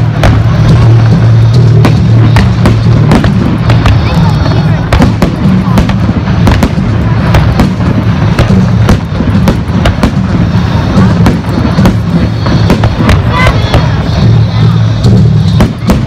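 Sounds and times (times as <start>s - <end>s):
fireworks bursting: 0.0s - 16.0s
music playing: 0.0s - 16.0s.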